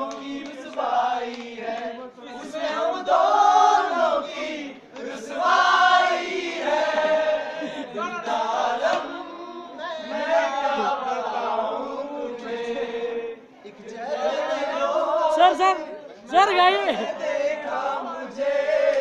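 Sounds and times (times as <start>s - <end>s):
men singing in unison: 0.0s - 19.0s.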